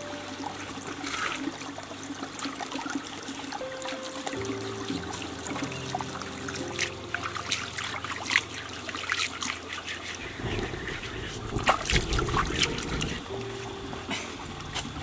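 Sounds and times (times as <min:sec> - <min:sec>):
small splashes and drips: 0:00.0 - 0:13.3
water trickling: 0:00.0 - 0:15.0.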